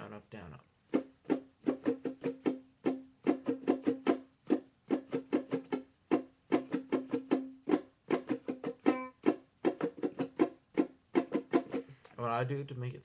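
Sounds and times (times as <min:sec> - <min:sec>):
ukulele strumming: 0:00.9 - 0:12.0.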